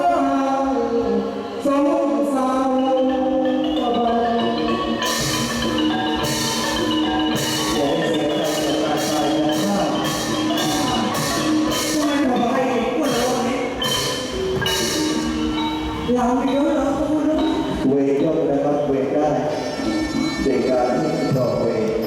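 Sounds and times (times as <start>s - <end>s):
mallet percussion melody: 0.0s - 22.0s
sharp percussion strokes: 2.8s - 22.0s.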